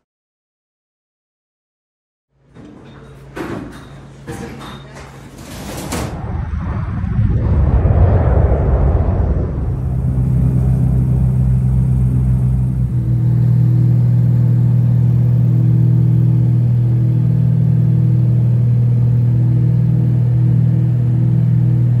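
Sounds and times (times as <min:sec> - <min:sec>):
airplane engines droning: 0:02.6 - 0:22.0.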